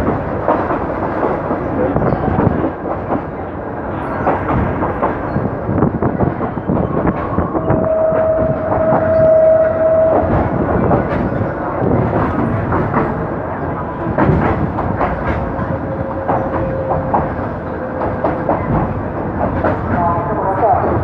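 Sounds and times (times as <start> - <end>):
train wheels clacking over rail joints: 0.0 - 20.3
train running rumble: 0.0 - 21.0.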